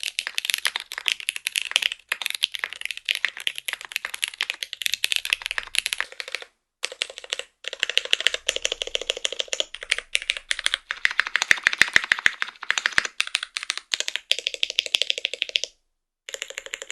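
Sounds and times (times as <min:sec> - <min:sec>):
mechanical keyboard typing: 0:00.0 - 0:15.7, 0:16.3 - 0:16.9.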